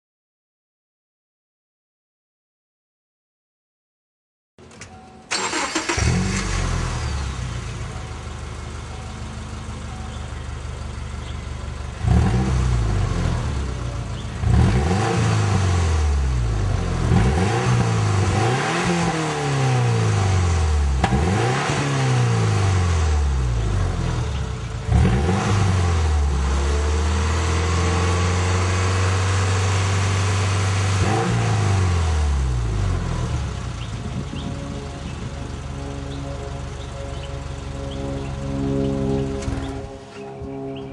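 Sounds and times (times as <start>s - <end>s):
car engine idling and revving: 4.7s - 40.9s.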